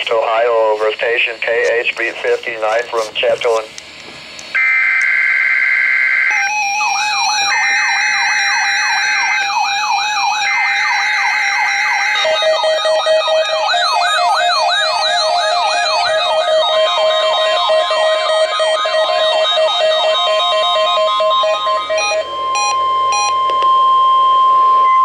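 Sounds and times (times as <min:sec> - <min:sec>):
steady electronic alarm tones: 0:04.5 - 0:25.0
electronic yelp siren: 0:04.6 - 0:25.0.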